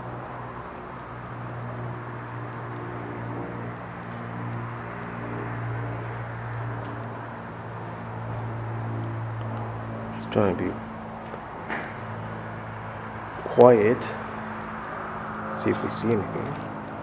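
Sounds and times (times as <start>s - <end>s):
faint steady tones: 0.0s - 17.0s
low mechanical hum: 0.0s - 17.0s.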